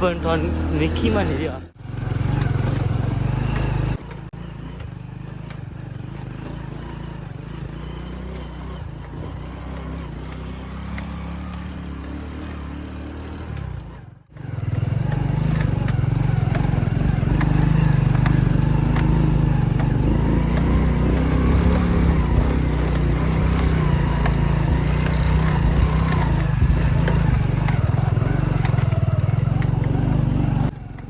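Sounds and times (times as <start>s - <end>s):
motorbike engine drone: 0.0s - 31.0s.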